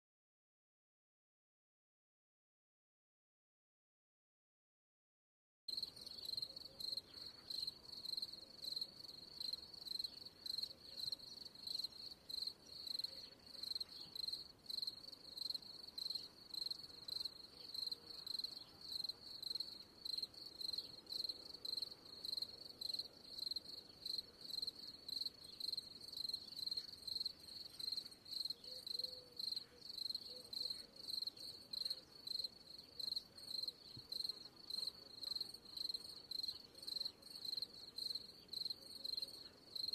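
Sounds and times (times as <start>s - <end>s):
crickets chirping: 5.7s - 39.9s.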